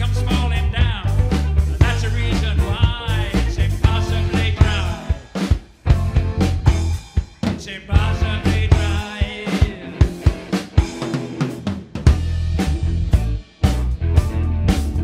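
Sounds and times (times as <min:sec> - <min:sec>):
electric guitar lead: 0:00.0 - 0:07.4, 0:08.0 - 0:15.0
bass guitar: 0:00.0 - 0:15.0
drum kit: 0:00.0 - 0:15.0.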